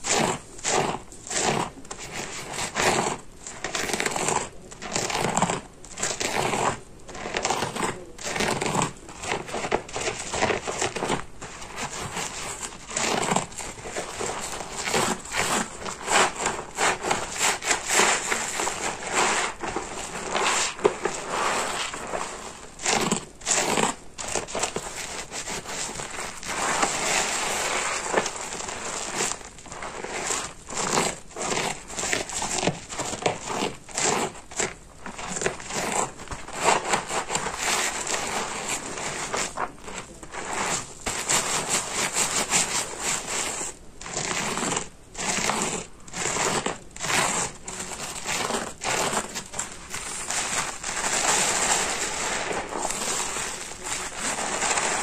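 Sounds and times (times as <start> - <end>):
soapy sponge crackling and crunching: 0.0 - 55.0.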